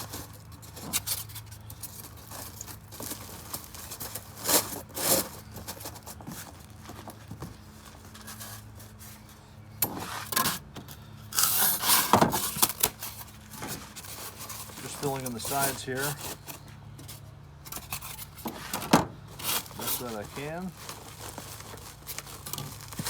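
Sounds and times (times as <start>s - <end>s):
packing material scraping cardboard: 0.0s - 10.7s, 11.3s - 16.7s, 17.7s - 23.0s.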